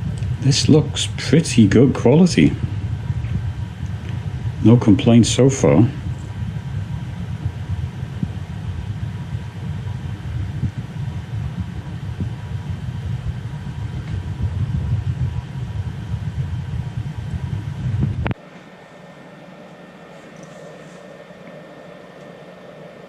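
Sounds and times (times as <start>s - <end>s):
printer fans running: 0.0s - 23.0s.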